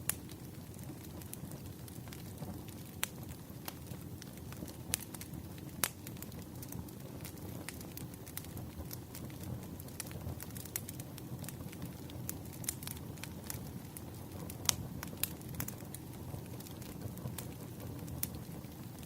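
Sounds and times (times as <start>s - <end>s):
fire flames rumbling: 0.0s - 19.0s
firewood crackling and popping: 0.0s - 19.0s.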